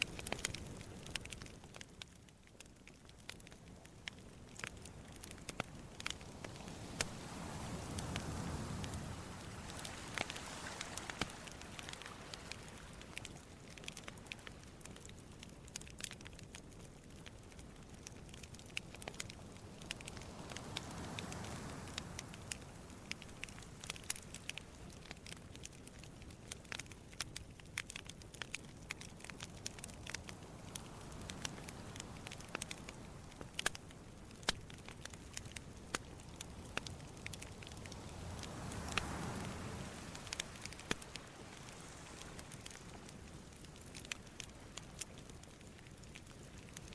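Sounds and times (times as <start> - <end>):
campfire crackling: 0.0 - 46.9
sea waves washing in: 4.1 - 16.0, 17.8 - 26.9, 28.8 - 46.9.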